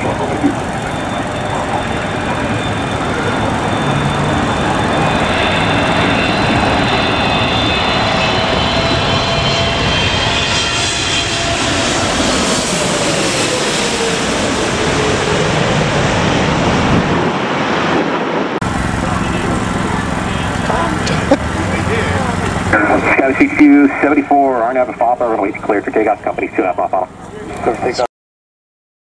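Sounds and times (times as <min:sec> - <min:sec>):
jet airliner engines roaring: 0:00.0 - 0:28.1.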